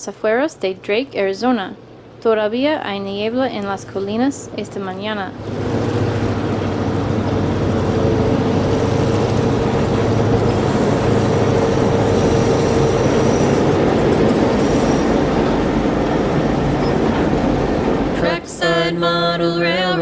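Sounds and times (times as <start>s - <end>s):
rail cars rumbling: 3.7s - 20.0s.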